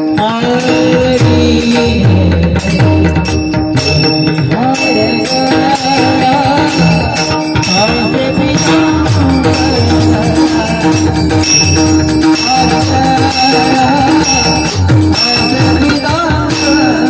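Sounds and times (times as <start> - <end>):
drum strokes: 0.0 - 17.0
small hand cymbals ringing: 0.0 - 17.0
wavering melody line: 0.0 - 17.0.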